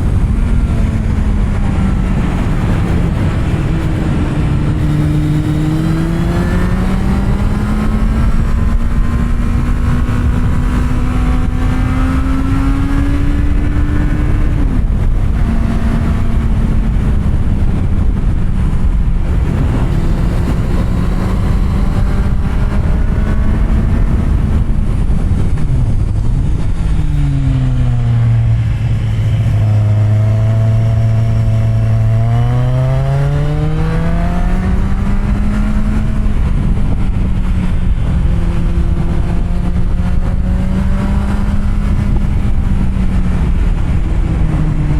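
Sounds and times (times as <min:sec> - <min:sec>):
motorcycle engine running: 0:00.0 - 0:44.9
wind rush: 0:00.0 - 0:44.9.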